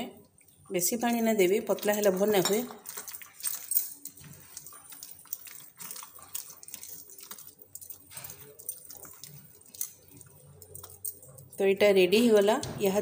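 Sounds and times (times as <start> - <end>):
hand squelching wet batter: 0.7 - 11.9.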